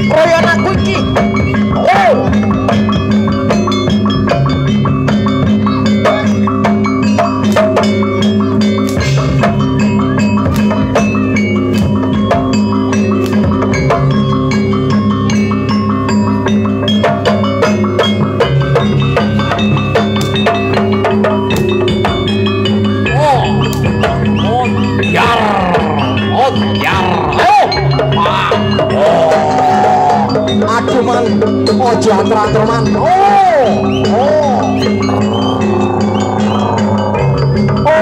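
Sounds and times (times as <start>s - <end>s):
gamelan music with drums and gongs: 0.0s - 38.0s.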